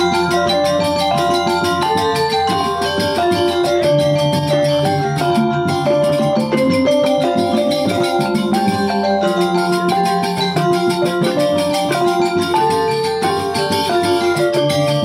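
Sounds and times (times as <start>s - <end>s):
instrumental melody of short notes: 0.0s - 15.0s.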